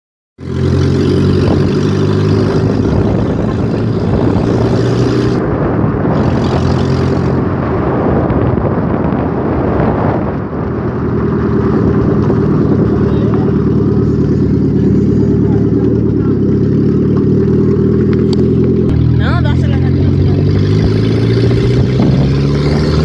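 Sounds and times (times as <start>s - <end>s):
car engine low rumble: 0.4s - 23.0s.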